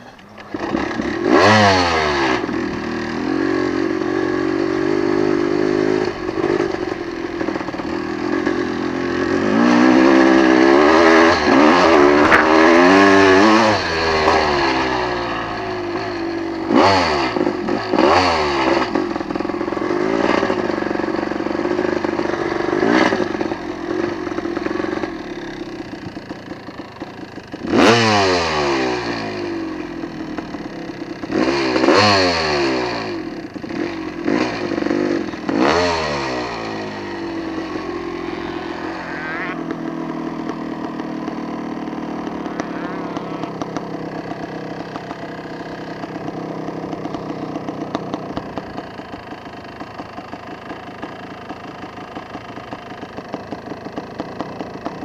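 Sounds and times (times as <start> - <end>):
engine throttle blips: 0.0 - 32.0, 32.7 - 52.8
off-road vehicle engine revving: 0.0 - 53.0.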